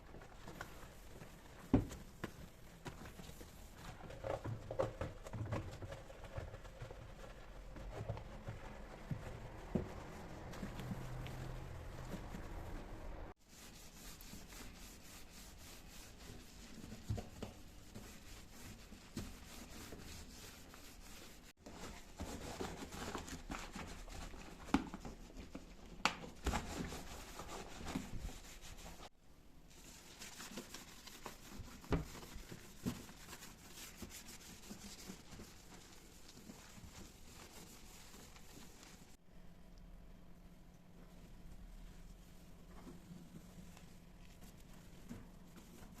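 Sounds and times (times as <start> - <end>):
rustling and crinkling: 0.0 - 39.2, 40.6 - 46.0.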